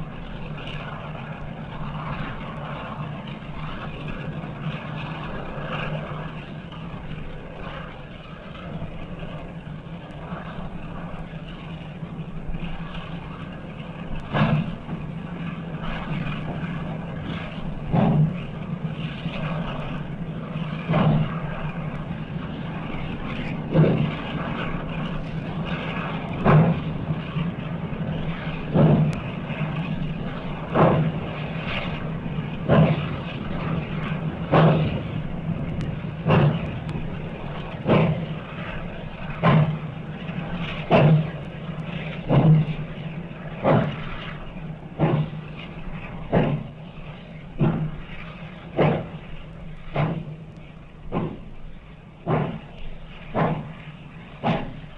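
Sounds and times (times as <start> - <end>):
low drone: 0.0 - 54.9
steam locomotive chuffing: 0.0 - 54.9.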